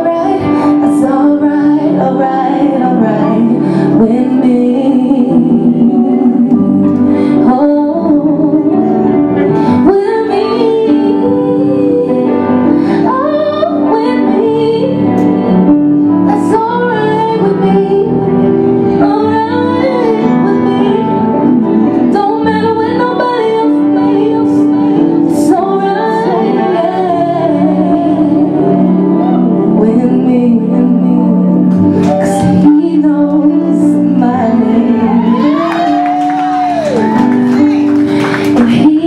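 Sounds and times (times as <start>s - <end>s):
electric guitar: 0.0s - 39.0s
woman singing: 0.0s - 39.0s.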